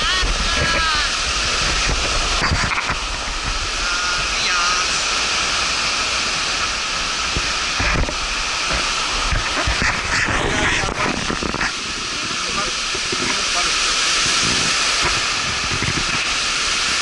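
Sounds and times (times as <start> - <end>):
waves breaking on sandy shore: 0.0 - 17.0
wind buffeting microphone: 0.0 - 17.0.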